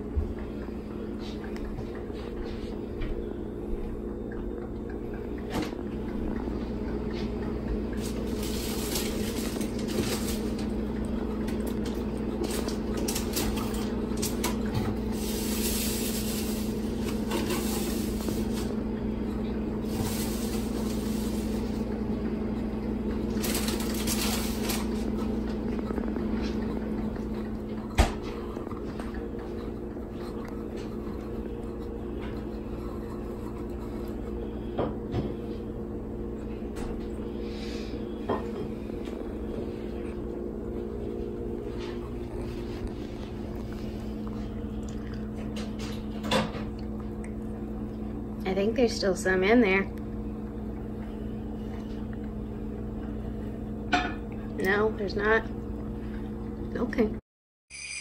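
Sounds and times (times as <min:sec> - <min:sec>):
steady low hum: 0:00.0 - 0:57.2.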